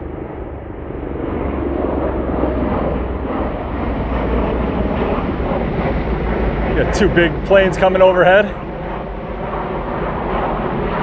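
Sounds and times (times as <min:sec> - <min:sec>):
airplane engine roar overhead: 0:00.0 - 0:11.0.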